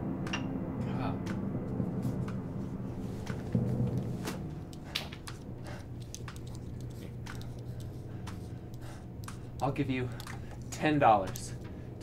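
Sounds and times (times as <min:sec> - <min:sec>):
low steady drone: 0:00.0 - 0:12.0.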